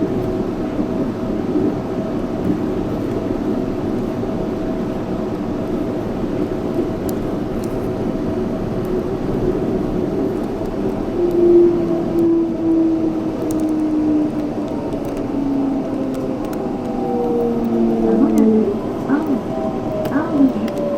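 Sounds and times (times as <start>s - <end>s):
train running rumble: 0.0s - 20.9s.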